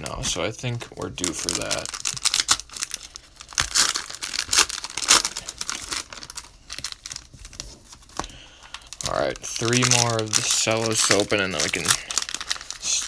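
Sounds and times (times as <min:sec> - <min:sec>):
cellophane wrapper tearing and crinkling: 0:00.0 - 0:13.0.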